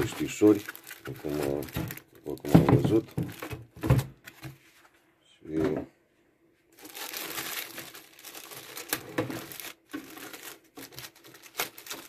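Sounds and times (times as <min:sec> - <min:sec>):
plastic bag crinkling: 0:00.0 - 0:04.4, 0:06.8 - 0:12.0.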